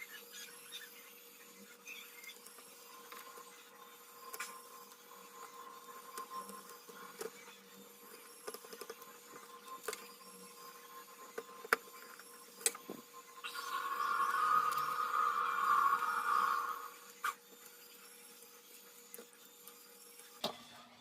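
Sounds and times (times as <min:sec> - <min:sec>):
faint electrical whine: 0:00.0 - 0:21.0.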